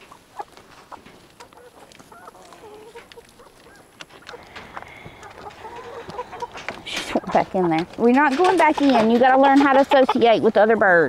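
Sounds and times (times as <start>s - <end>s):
chickens clucking: 0.0s - 11.0s
light taps and rustles: 0.4s - 10.1s.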